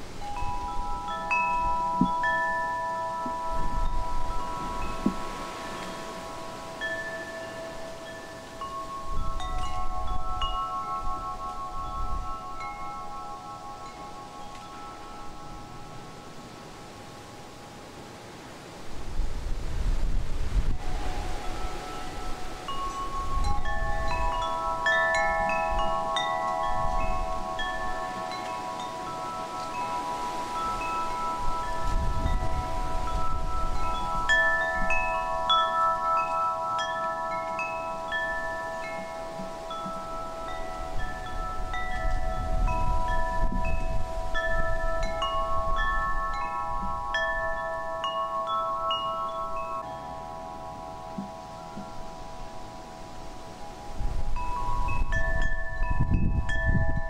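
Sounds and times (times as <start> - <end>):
wind chimes ringing: 0.0 - 19.2, 20.1 - 57.0
wind rumbling on microphone: 0.0 - 57.0.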